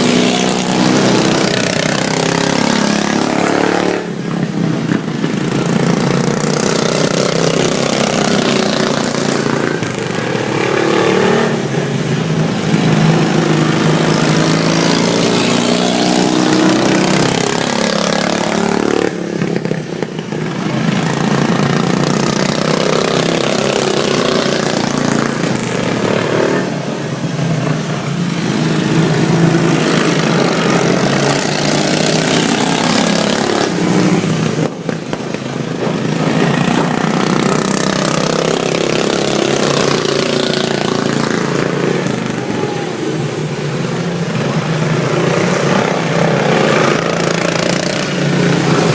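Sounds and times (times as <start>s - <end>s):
lawn mower engines revving: 0.0s - 48.9s.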